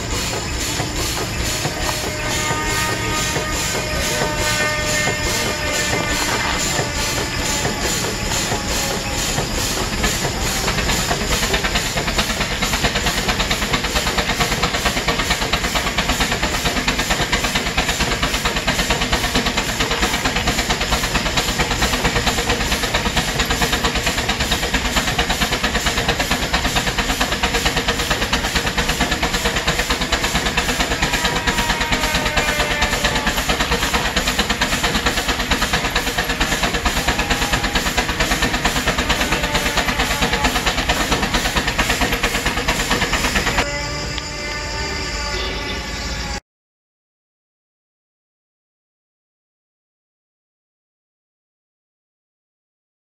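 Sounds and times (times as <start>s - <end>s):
steam engine beating: 0.0s - 46.4s
steam hissing: 0.0s - 46.4s.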